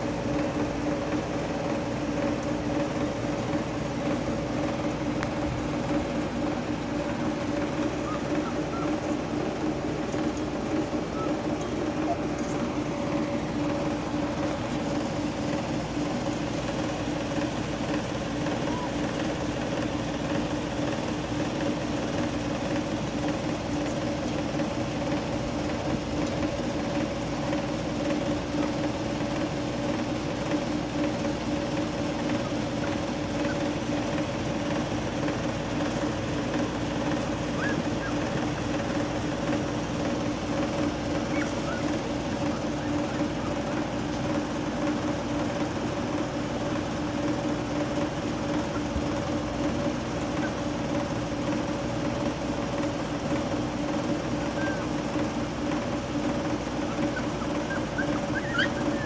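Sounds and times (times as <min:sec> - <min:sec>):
machine motor hum: 0:00.0 - 0:59.0.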